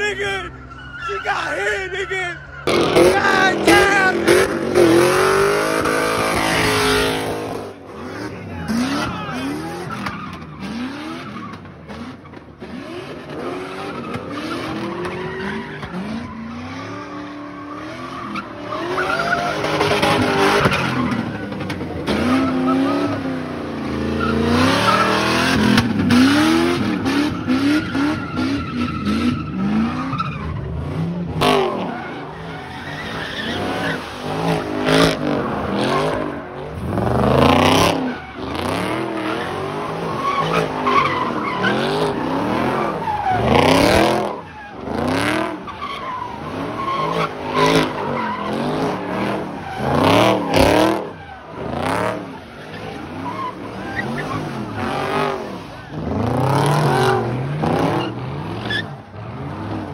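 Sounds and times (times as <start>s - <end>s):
tires screeching: 0.0s - 59.9s
car engine revving: 2.4s - 59.9s.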